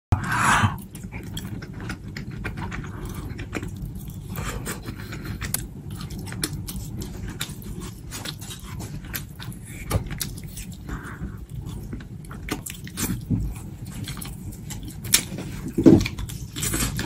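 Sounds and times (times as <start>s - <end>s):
crunchy chewing: 0.6s - 17.0s.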